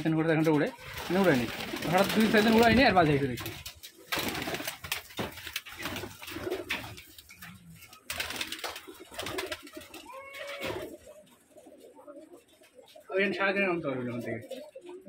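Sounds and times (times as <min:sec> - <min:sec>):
wing beats: 0:00.6 - 0:13.1
pigeons cooing: 0:00.8 - 0:15.0.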